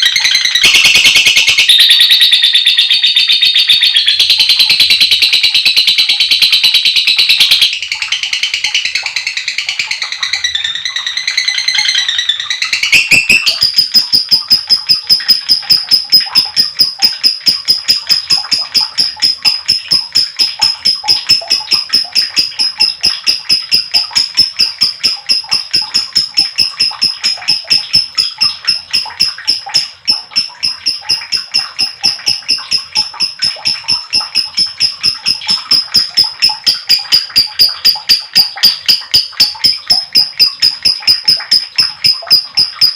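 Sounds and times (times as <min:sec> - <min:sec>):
lovebird chattering call: 0:00.0 - 0:42.9.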